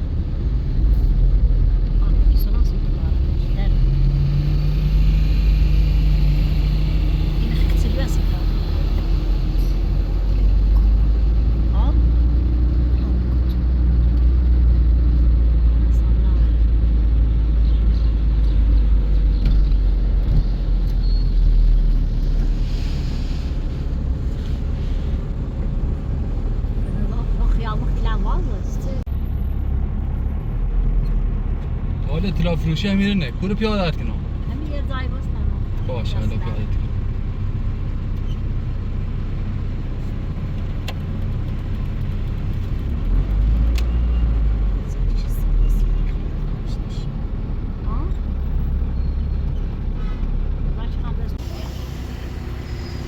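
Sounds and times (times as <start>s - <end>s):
car engine: 0.0s - 53.0s
road noise: 0.0s - 53.0s.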